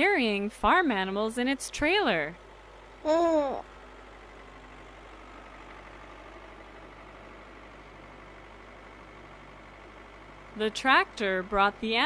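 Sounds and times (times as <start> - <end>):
faint engine hum: 0.0 - 12.0.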